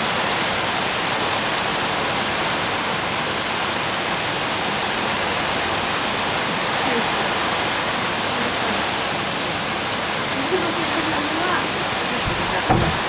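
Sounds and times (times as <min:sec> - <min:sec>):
torrential rain hissing: 0:00.0 - 0:13.0.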